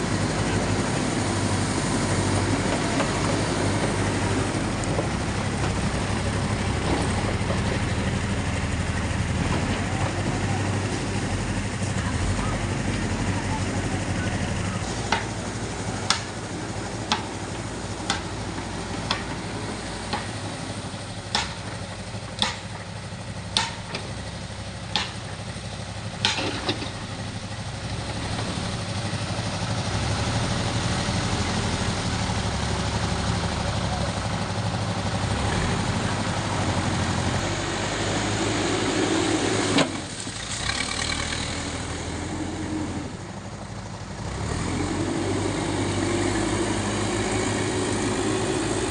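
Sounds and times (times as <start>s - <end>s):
heavy machine engine running: 0.0s - 48.9s.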